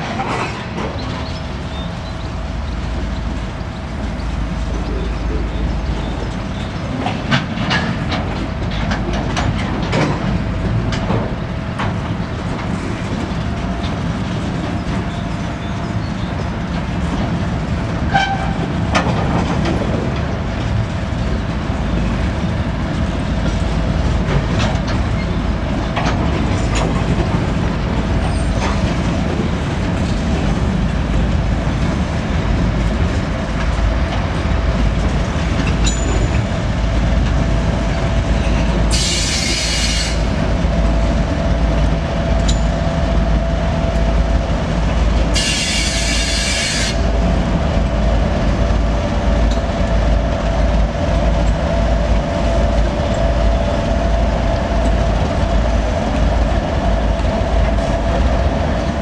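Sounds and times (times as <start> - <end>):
diesel locomotive engine running: 0.0 - 59.0
wheels clacking over rail joints: 0.0 - 59.0.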